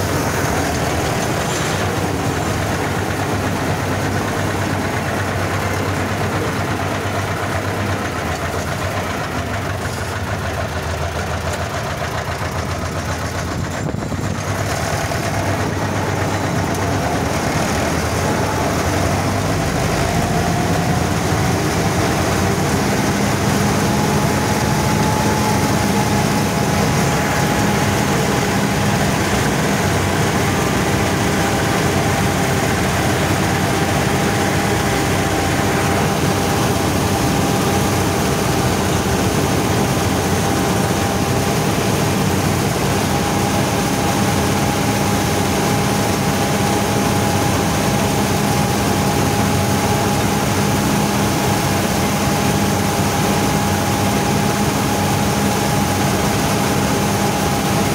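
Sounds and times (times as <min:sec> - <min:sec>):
combine harvester engine drone: 0:00.0 - 0:57.9
high machinery whine: 0:00.0 - 0:57.9.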